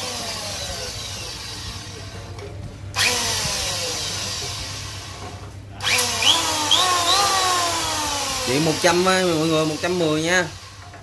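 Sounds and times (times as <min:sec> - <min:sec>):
power tool motor whine: 0:00.0 - 0:02.0, 0:03.0 - 0:11.0.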